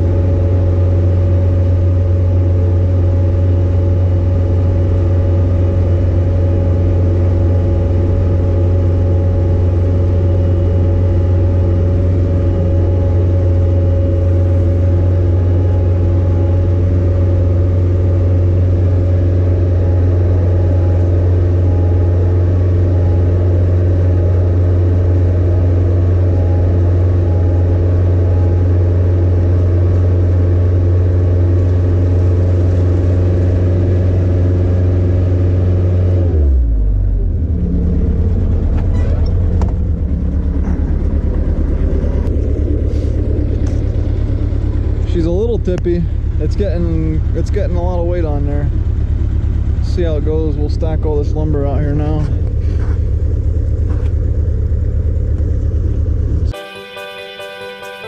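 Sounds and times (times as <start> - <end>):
skid steer engine idling: 0.0 - 58.0.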